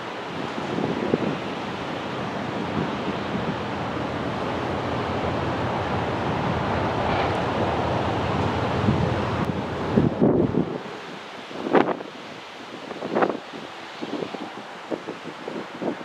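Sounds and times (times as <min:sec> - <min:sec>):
water washing along ship hull: 0:00.0 - 0:16.0
wind buffeting microphone: 0:00.0 - 0:16.0.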